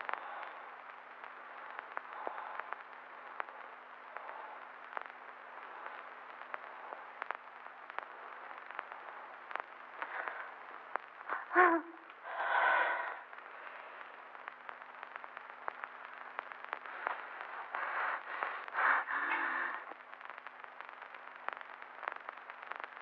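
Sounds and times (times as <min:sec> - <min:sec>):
film soundtrack hiss and hum: 0:00.0 - 0:23.0.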